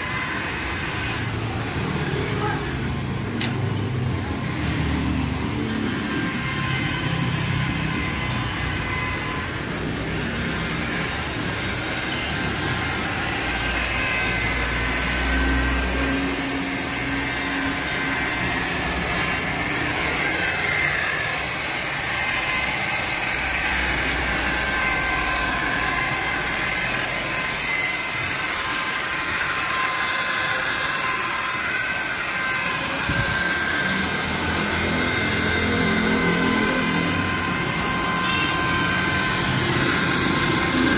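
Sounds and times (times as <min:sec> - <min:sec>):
electric polisher motor whine: 0:00.0 - 0:40.9.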